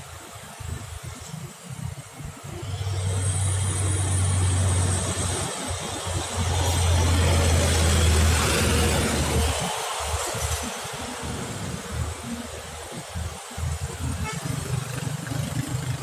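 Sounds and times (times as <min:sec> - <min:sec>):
diesel truck passing by: 0:02.4 - 0:16.0.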